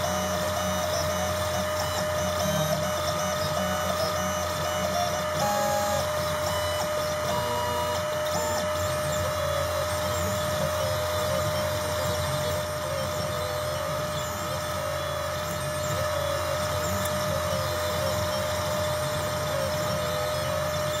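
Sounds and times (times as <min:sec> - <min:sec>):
steady hum: 0:00.0 - 0:21.0
stepper motors whining: 0:00.0 - 0:21.0.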